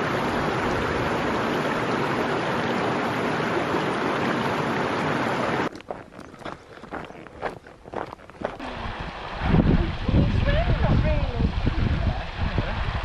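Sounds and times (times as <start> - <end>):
stream flowing over boulders: 0.0 - 13.0.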